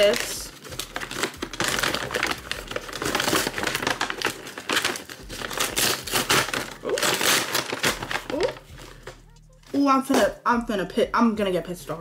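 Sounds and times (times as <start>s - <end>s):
paper bag crinkling: 0.0s - 9.8s.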